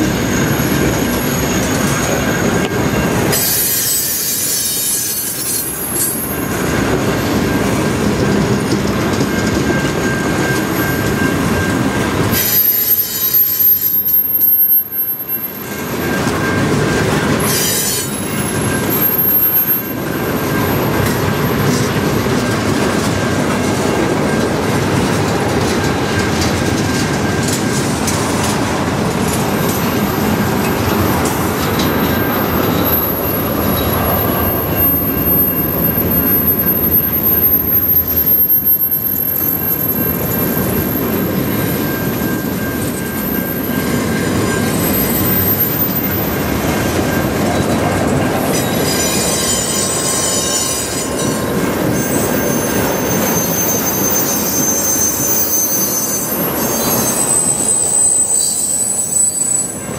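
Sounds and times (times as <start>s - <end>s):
high-pitched wheel squeal: 0.0s - 8.3s, 9.2s - 28.4s, 29.3s - 59.9s.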